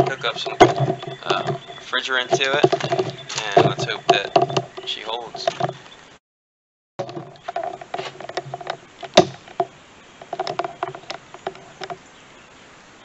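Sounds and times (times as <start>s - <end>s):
gauge set and hoses clattering: 0.0s - 5.9s, 7.0s - 12.0s.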